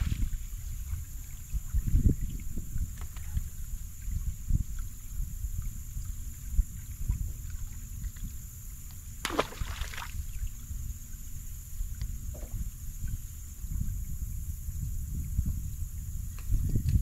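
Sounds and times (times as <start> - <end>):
low wind rumble: 0.0 - 17.0
water moving around a boat: 0.0 - 17.0.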